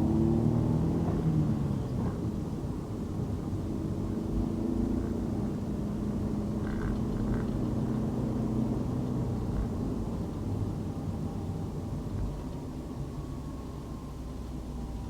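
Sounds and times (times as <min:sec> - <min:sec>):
engine and tyre rumble: 0:00.0 - 0:15.0.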